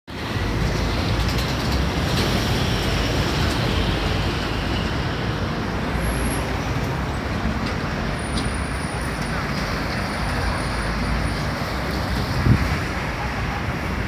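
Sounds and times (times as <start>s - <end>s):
loud traffic rumble: 0.1s - 14.0s.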